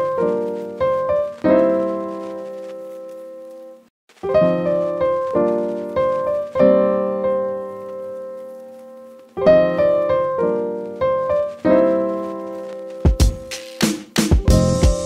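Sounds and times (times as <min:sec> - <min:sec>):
piano chords: 0:00.0 - 0:13.6, 0:14.3 - 0:15.0.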